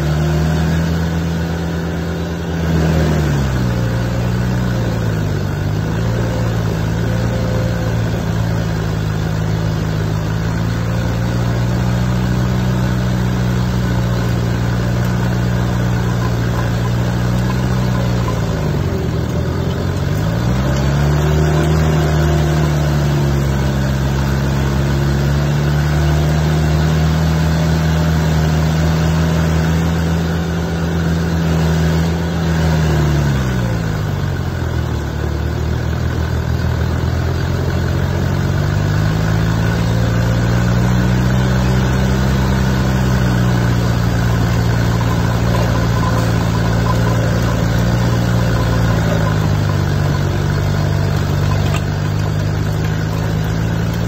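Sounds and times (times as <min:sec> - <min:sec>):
cutter wheel grinding wood: 0:00.0 - 0:54.0
stump grinder engine running: 0:00.0 - 0:54.0.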